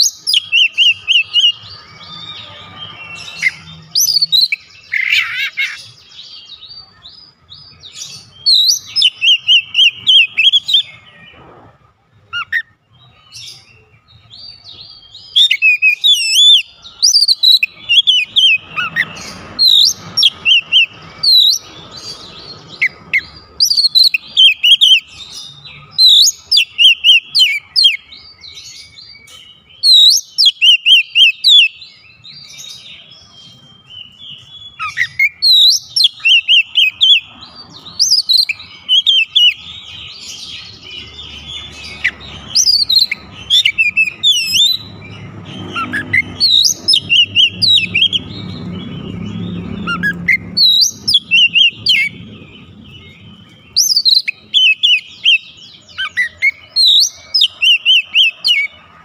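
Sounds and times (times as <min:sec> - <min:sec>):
bird chirping and whistling: 0:00.0 - 0:06.7, 0:07.6 - 0:11.3, 0:12.3 - 0:58.8.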